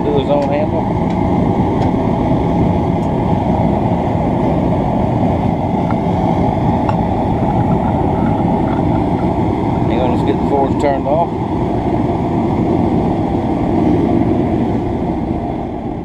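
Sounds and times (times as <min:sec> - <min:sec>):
forge burner roaring: 0:00.0 - 0:16.0.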